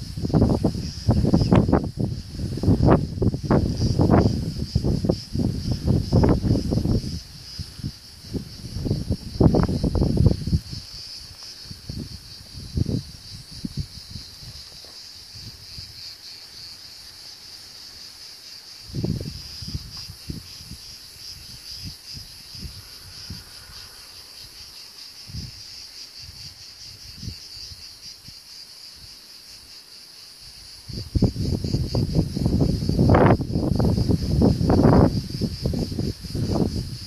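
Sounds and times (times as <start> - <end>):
insects chirring: 0.0 - 37.0.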